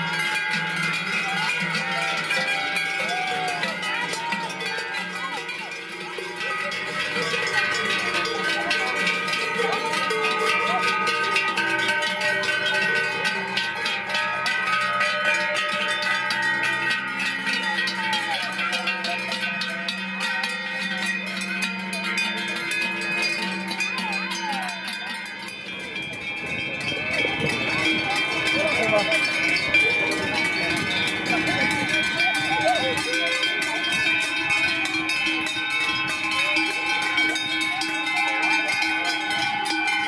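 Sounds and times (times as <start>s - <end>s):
cowbells clanging: 0.0s - 40.0s.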